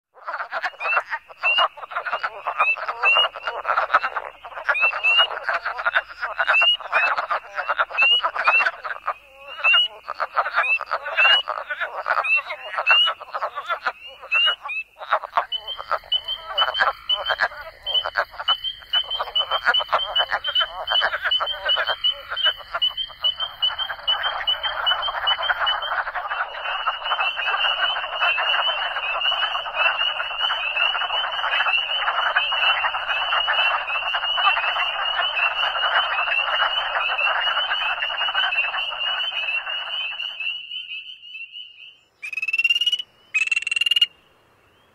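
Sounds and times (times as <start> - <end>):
frogs calling in chorus: 0.2 - 44.4.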